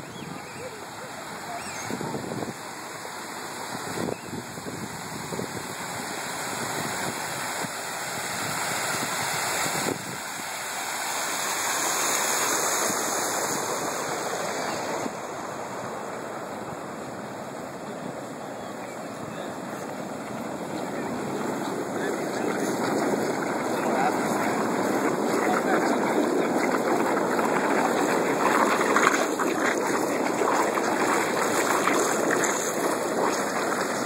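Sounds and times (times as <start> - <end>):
water rushing and splashing: 0.0 - 34.0.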